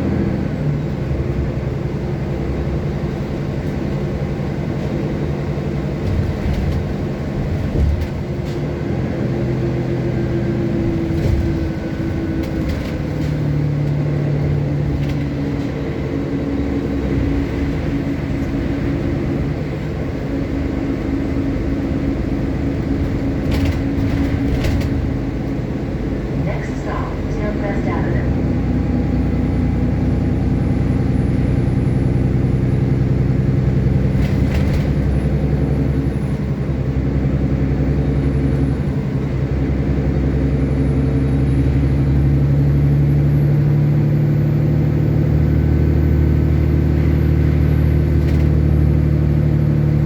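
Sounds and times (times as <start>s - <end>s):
bus engine hum: 0.0s - 50.0s.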